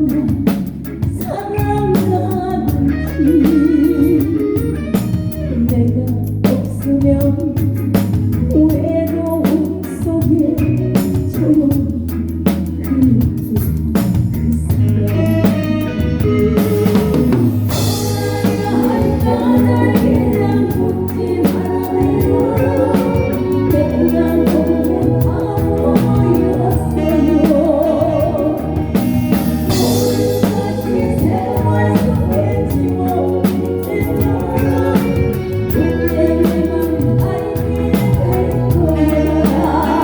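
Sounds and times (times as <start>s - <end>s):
live band with drum kit: 0.0s - 40.0s
person singing with vibrato: 0.0s - 40.0s.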